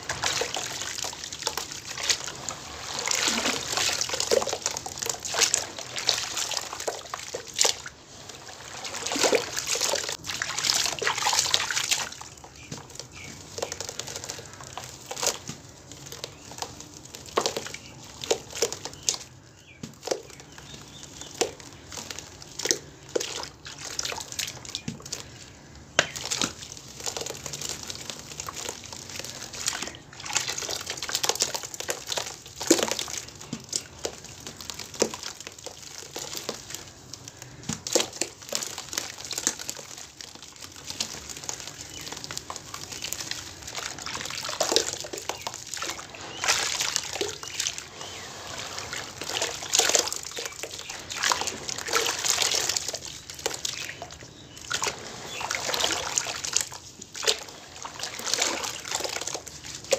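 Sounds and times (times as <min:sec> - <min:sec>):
crumbling chunks crackling: 0:00.0 - 0:59.9
water sloshing and splashing in basin: 0:00.0 - 0:59.9.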